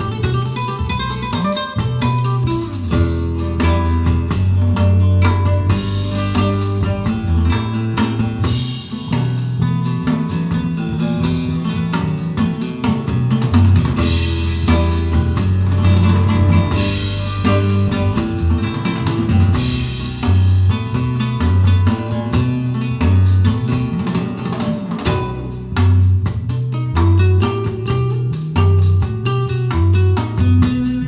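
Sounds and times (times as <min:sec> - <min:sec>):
music through loudspeakers: 0:00.0 - 0:31.0.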